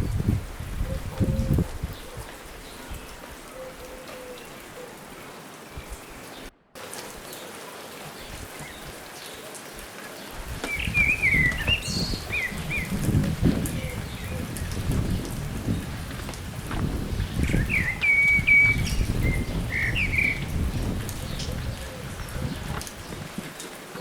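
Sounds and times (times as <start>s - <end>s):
rain-like hiss: 0.0s - 24.0s.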